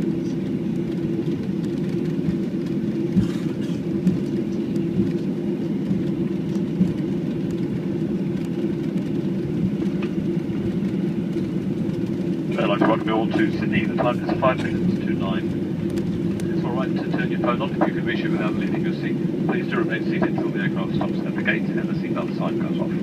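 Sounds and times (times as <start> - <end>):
jet engines humming at low thrust: 0.0 - 23.0.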